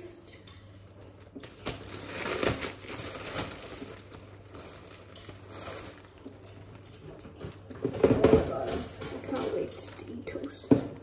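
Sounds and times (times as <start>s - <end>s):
plastic bag crinkling: 0.7s - 11.0s.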